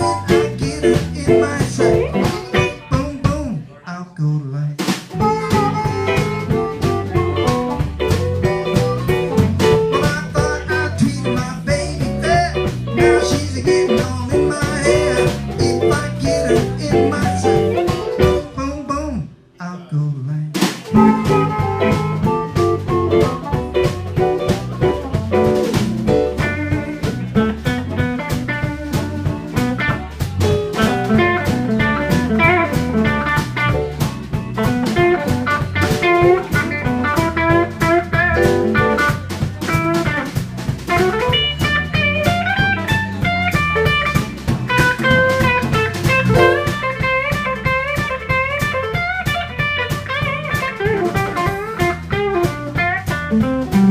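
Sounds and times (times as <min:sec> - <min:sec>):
electric guitar lead: 0:00.0 - 0:03.0, 0:05.2 - 0:18.5, 0:20.9 - 0:53.9
drum kit: 0:00.0 - 0:03.6, 0:04.8 - 0:18.9, 0:20.5 - 0:53.9
bass line: 0:00.0 - 0:03.8, 0:05.1 - 0:19.4, 0:20.1 - 0:53.9.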